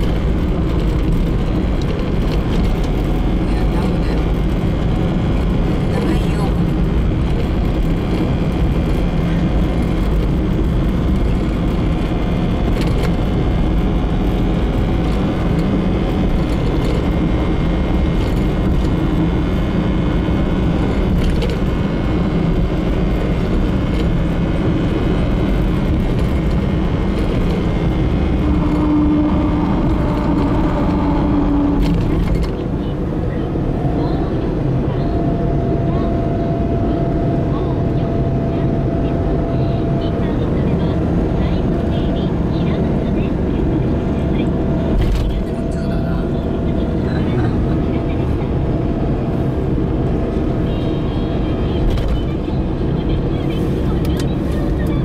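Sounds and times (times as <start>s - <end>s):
car cabin road noise: 0.0s - 55.0s.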